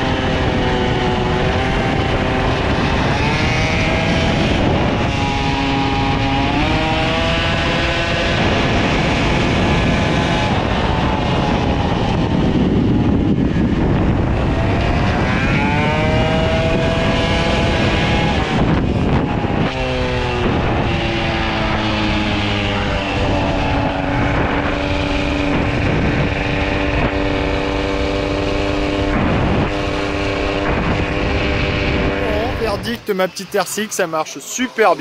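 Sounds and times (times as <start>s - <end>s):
two-stroke moped engine revving: 0.0s - 35.0s
wind noise: 0.0s - 35.0s.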